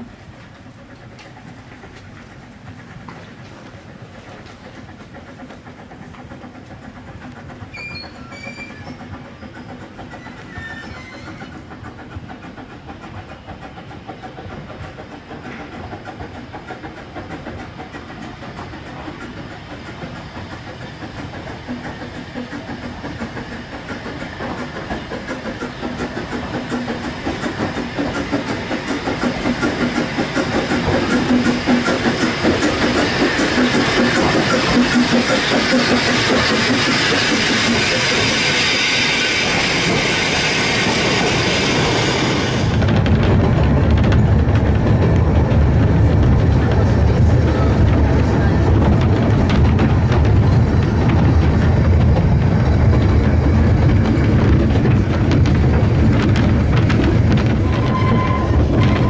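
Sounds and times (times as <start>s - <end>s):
steam hissing: 0.0s - 59.0s
steam locomotive approaching: 0.0s - 59.0s
train wheels clicking on rails: 0.0s - 59.0s.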